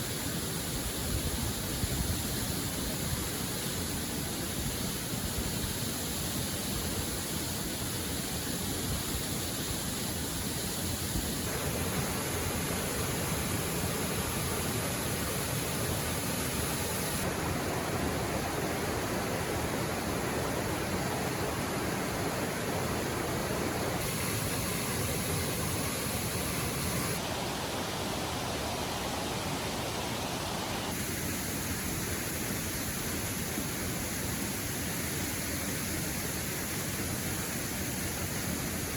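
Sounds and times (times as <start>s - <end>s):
river and waterfall rushing: 7.6s - 38.9s.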